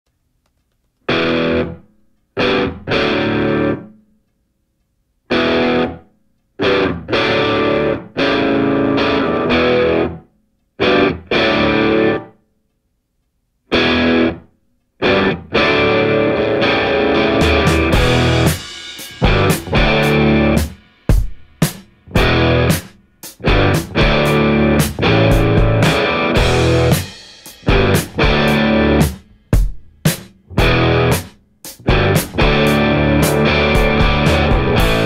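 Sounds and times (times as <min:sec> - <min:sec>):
distorted electric guitar chords: 0:01.1 - 0:03.9, 0:05.3 - 0:06.0, 0:06.6 - 0:10.2, 0:10.8 - 0:12.4, 0:13.7 - 0:29.7, 0:30.5 - 0:35.0.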